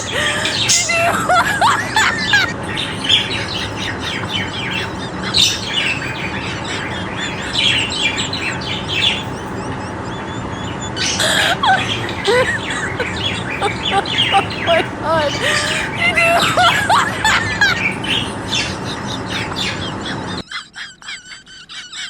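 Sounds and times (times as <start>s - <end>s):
birds chirping and squawking: 0.0s - 22.0s.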